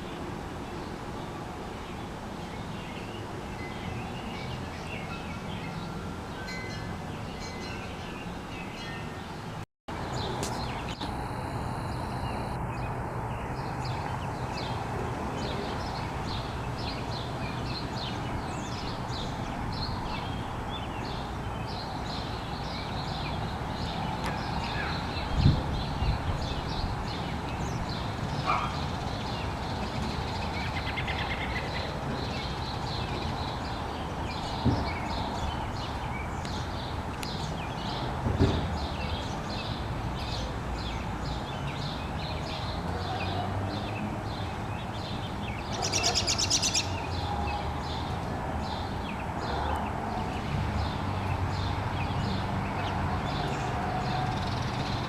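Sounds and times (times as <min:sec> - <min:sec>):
steady background noise: 0:00.0 - 0:55.0
small birds chirping: 0:06.5 - 0:38.1, 0:38.8 - 0:55.0.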